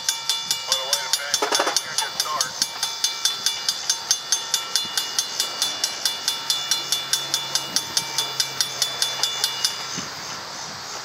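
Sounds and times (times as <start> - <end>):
railroad crossing bell ringing: 0.0 - 10.3.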